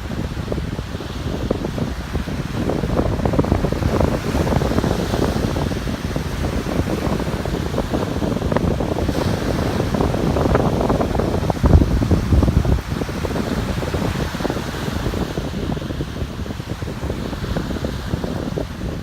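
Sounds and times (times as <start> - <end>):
ocean surf on beach: 0.0 - 19.0
wind buffeting microphone: 0.0 - 19.0.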